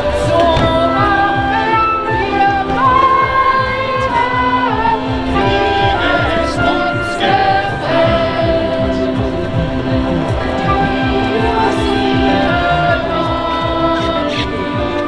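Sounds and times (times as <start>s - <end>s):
held low note: 0.0s - 15.0s
voices singing a melody: 0.0s - 15.0s.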